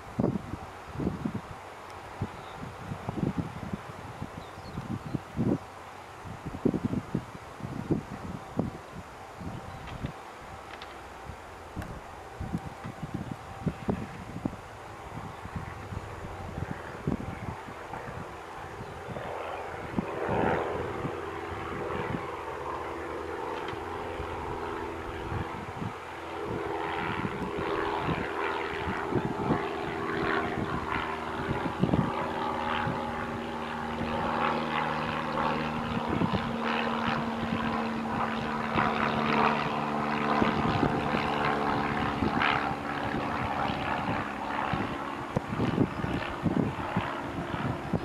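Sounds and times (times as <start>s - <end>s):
jet engines humming: 0.0s - 48.0s.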